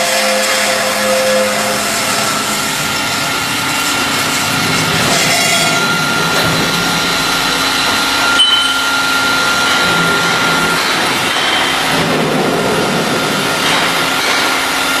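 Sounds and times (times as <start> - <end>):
cutting machine running: 0.0 - 15.0
high-pitched machine whine: 0.0 - 15.0.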